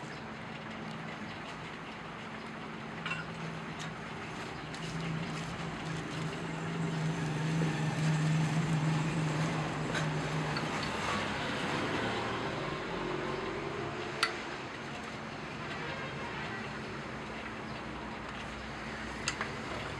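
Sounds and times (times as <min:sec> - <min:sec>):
low motor hum: 0:00.1 - 0:19.9.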